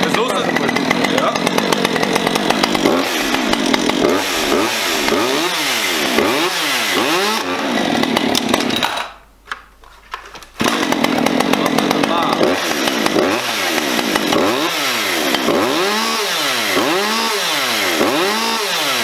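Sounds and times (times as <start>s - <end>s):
chainsaw engine running: 0.0s - 9.1s, 10.6s - 19.0s.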